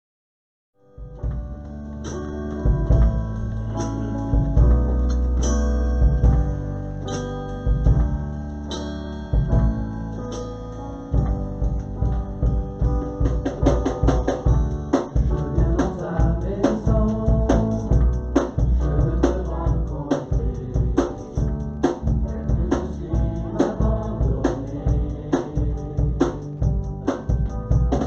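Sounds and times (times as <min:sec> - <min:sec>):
band music: 0:01.0 - 0:28.0
drum kit beat: 0:01.0 - 0:28.0
heavy bass line: 0:01.0 - 0:28.0.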